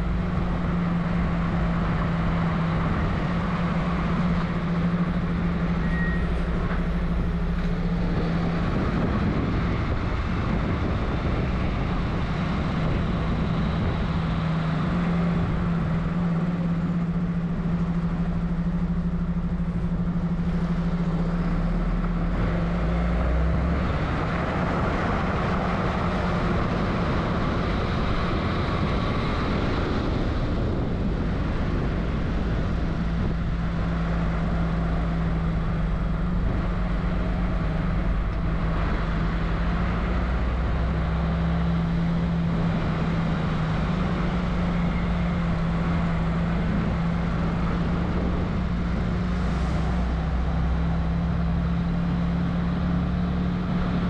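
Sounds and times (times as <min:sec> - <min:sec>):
loud road noise: 0:00.0 - 0:54.0
truck engine drone: 0:00.0 - 0:54.0.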